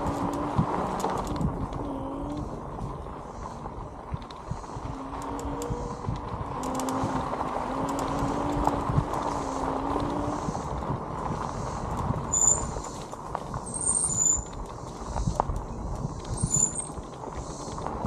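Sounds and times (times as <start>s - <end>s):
tyres crunching over dirt: 0.0s - 18.0s.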